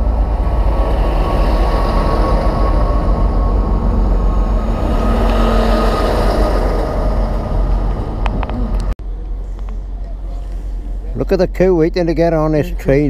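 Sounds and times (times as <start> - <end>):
train rumble of wheels and engine: 0.0 - 13.0.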